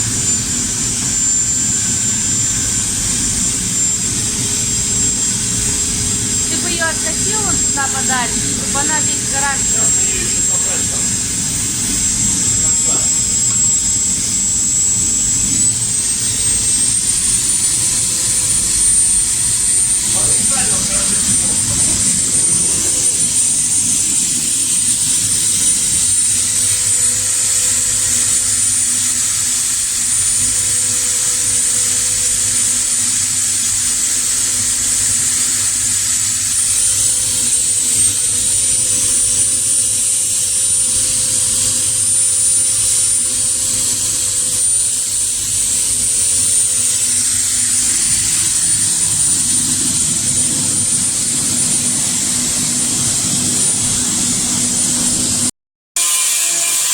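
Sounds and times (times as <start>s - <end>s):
power tool running: 0.0s - 56.9s.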